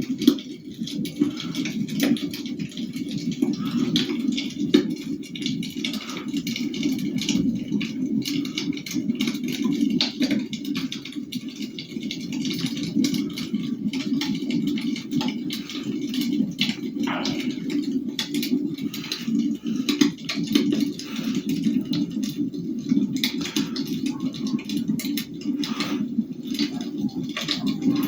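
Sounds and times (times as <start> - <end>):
fire crackling and popping: 0.0 - 28.0
wood fire burning: 0.0 - 28.0.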